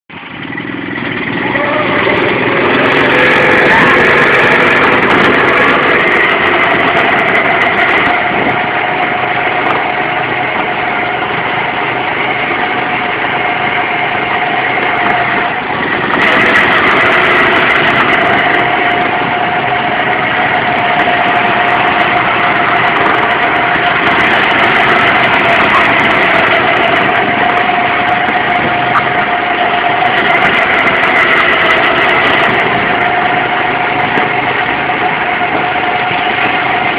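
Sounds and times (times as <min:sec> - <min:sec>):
go-kart engine running: 0:00.1 - 0:36.9.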